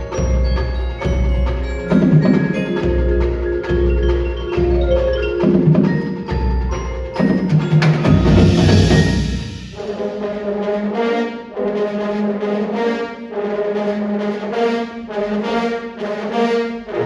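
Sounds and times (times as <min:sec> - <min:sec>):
marching band brass chords: 0:00.0 - 0:17.0.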